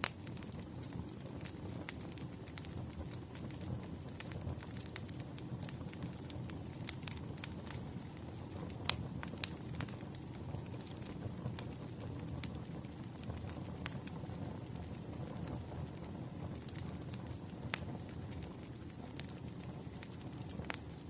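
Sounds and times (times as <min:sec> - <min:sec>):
firewood crackling and popping: 0:00.0 - 0:21.0
low rumble of flames: 0:00.0 - 0:21.0.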